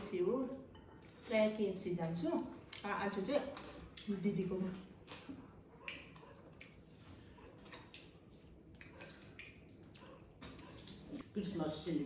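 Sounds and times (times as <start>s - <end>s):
chewing food: 0.6s - 11.8s.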